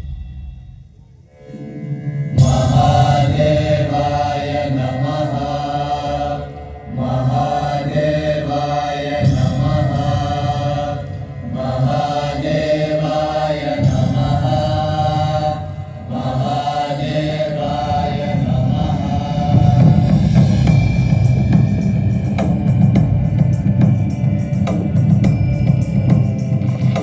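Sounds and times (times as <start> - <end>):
music: 0.0 - 27.0
group of voices chanting: 1.5 - 27.0.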